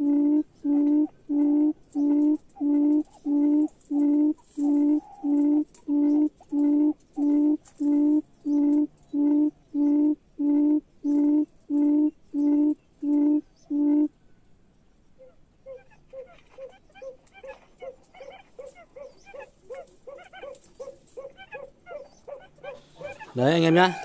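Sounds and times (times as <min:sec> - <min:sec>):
bird deep hollow hooting: 0:00.0 - 0:14.3, 0:15.2 - 0:24.0.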